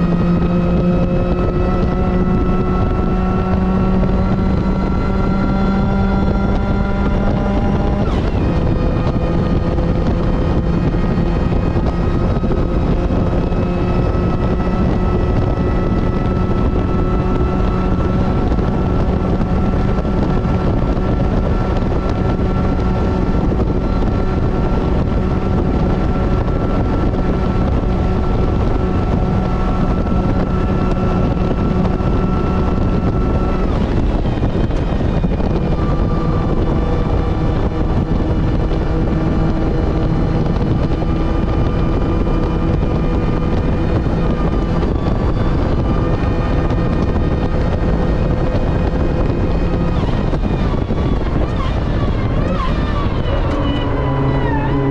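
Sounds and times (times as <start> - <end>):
car engine at steady revs: 0.0 - 54.9
road noise: 0.0 - 54.9
wind noise: 0.0 - 54.9.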